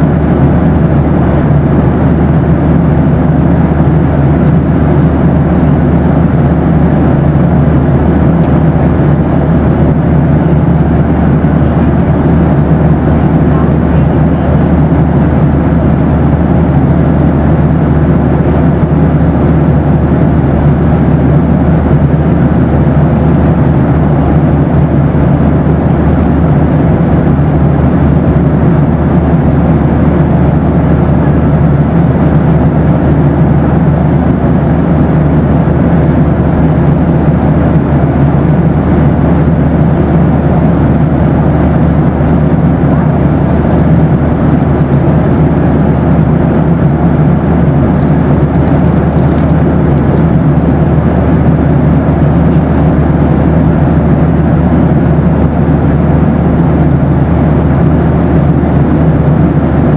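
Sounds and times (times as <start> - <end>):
airplane cabin engine rush: 0.0 - 59.9
faint steady hum: 0.0 - 59.9.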